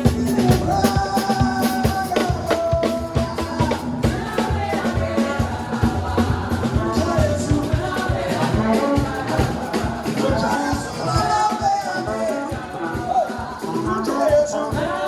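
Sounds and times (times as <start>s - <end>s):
live gospel band: 0.0s - 15.0s
percussion: 0.0s - 15.0s
singing: 0.0s - 15.0s
steady drum beat: 0.0s - 15.0s.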